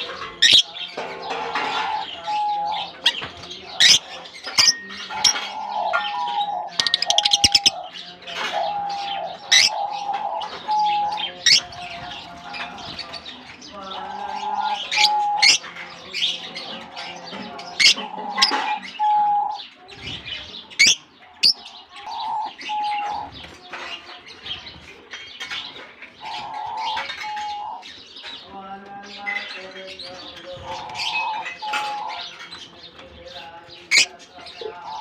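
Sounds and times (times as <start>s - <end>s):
lovebirds chirping: 0.0s - 35.0s.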